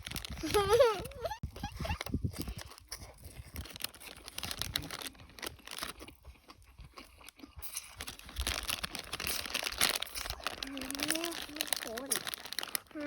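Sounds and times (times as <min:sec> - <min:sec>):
chewing crunchy food: 0:01.5 - 0:13.0.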